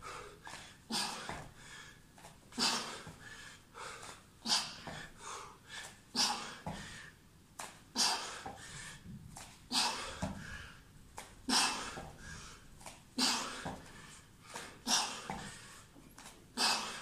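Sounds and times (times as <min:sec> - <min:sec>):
person breathing heavily: 0:00.0 - 0:07.2, 0:07.9 - 0:17.0.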